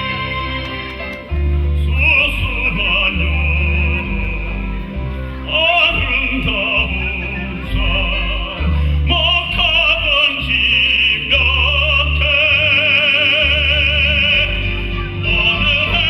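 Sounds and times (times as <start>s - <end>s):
instrumental accompaniment: 0.0s - 16.0s
person singing operatically: 1.7s - 16.0s.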